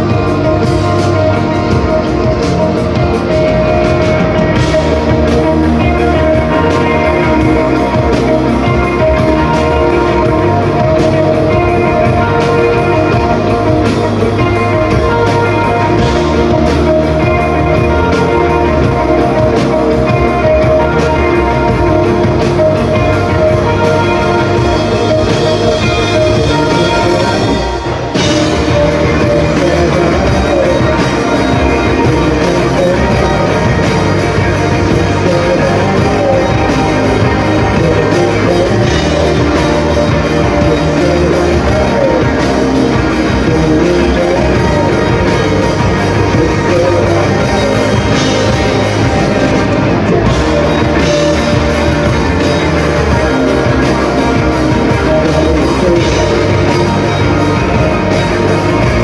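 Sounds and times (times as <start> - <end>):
band playing loud rock music: 0.0 - 59.0.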